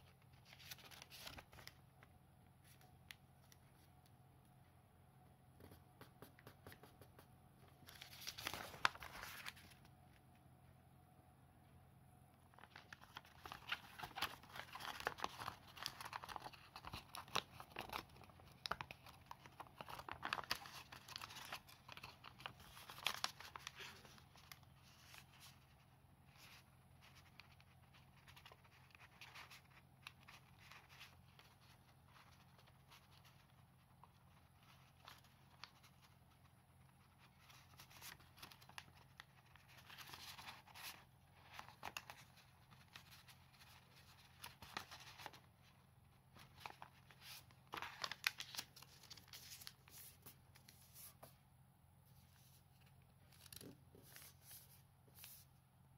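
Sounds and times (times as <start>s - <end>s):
paper rustling and crinkling: 0.0s - 1.9s, 7.8s - 9.9s, 12.5s - 51.4s, 52.1s - 55.5s.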